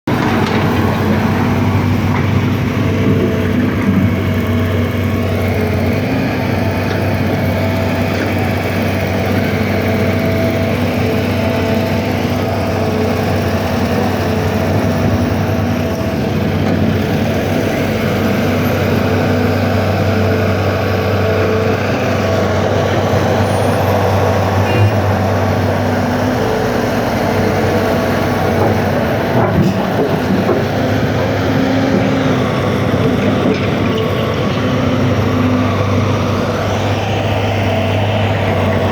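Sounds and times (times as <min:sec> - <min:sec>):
large engine running: 0:00.1 - 0:38.9.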